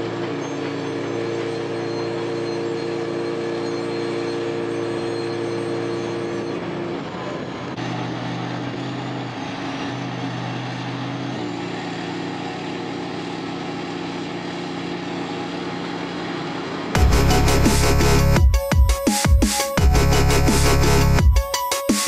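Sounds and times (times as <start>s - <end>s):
truck engine running at raised revs: 0.0s - 22.0s.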